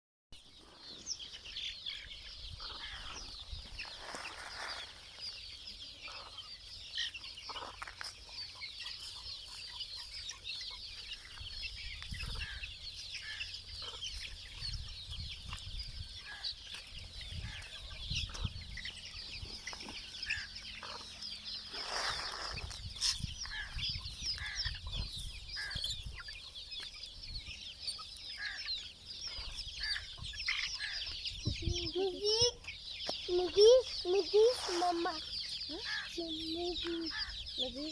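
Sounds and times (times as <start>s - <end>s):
chickens clucking: 0.5s - 37.9s.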